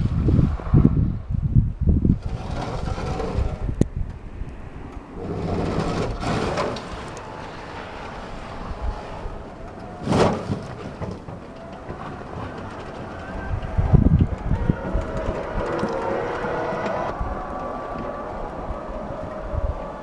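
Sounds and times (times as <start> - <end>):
plough scraping snow and ice: 2.2 - 3.8, 4.9 - 20.0.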